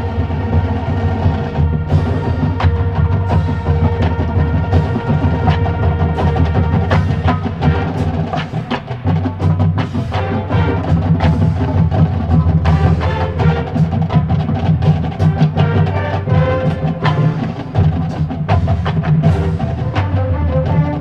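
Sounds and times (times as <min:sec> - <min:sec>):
drums and percussion beat: 0:00.0 - 0:21.0
marching band playing: 0:00.0 - 0:21.0.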